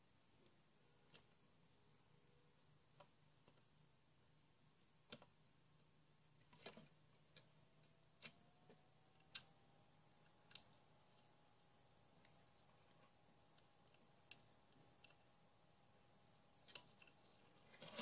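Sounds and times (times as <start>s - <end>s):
faint clicks and taps: 0.0s - 18.0s.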